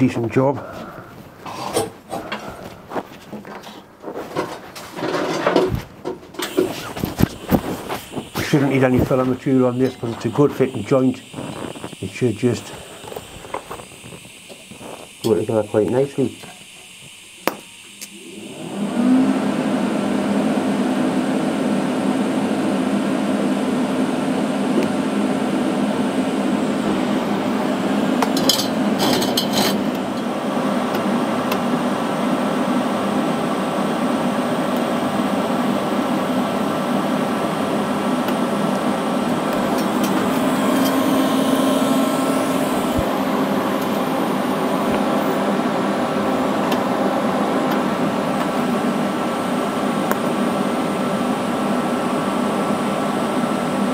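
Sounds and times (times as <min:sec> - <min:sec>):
welding arc buzzing hiss: 0:00.0 - 0:53.9
welding equipment hum: 0:00.0 - 0:53.9.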